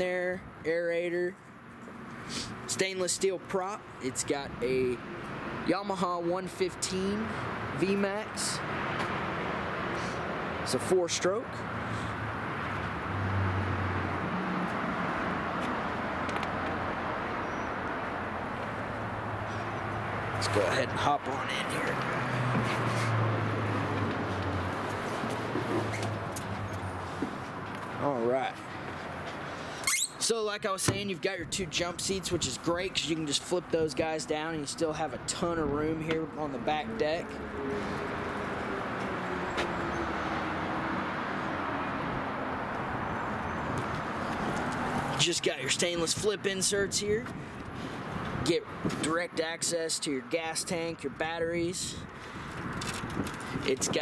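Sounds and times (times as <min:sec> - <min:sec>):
distant road traffic: 0:00.0 - 0:54.0.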